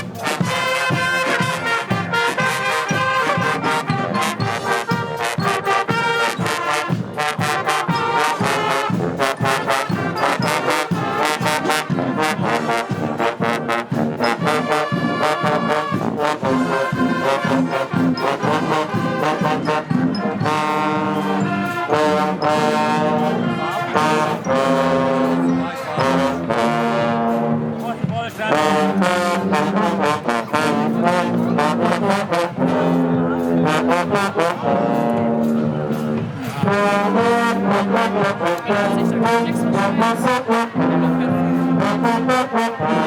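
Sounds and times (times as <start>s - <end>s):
loud brass playing: 0.0s - 43.0s
steady drum beat: 0.0s - 43.0s.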